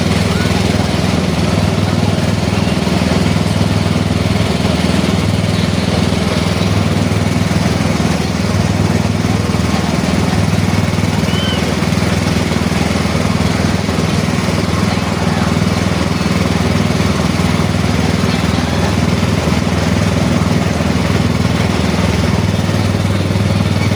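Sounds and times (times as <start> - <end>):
small engine droning: 0.0 - 23.9.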